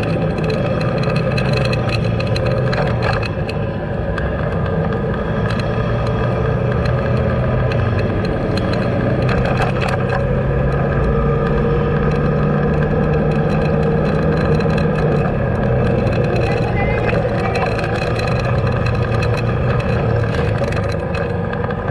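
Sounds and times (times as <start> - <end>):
light clicks and rattles: 0.0 - 21.9
road and wind noise: 0.0 - 21.9
vehicle engine running: 0.0 - 21.9.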